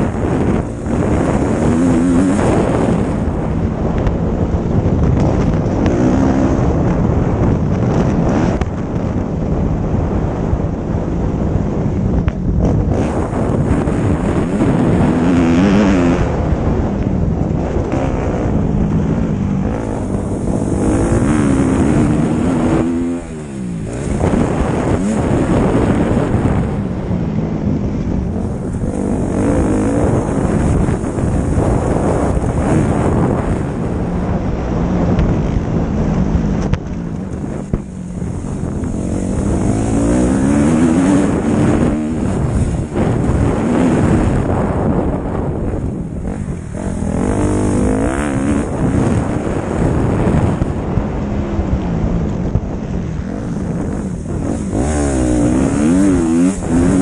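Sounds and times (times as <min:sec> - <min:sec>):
motocross bike engine revving: 0:00.0 - 0:09.0, 0:12.6 - 0:57.0
wind buffeting on microphone: 0:00.0 - 0:57.0.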